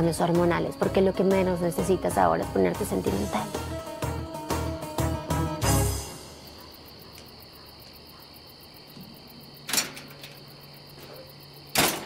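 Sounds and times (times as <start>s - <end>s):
faint cricket chirring: 0.0s - 4.4s, 5.4s - 12.0s.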